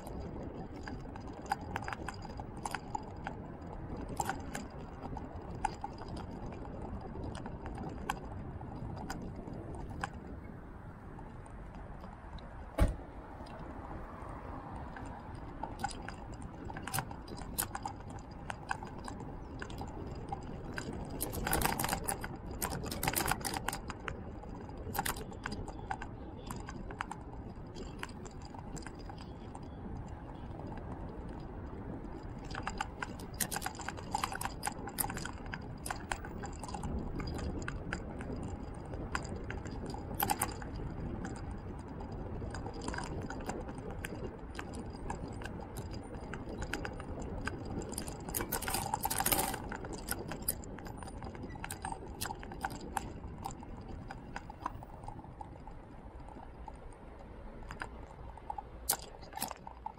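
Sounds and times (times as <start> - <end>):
light clicks and rattles: 0.0 - 59.9
rush of wind and tyres: 0.0 - 59.9.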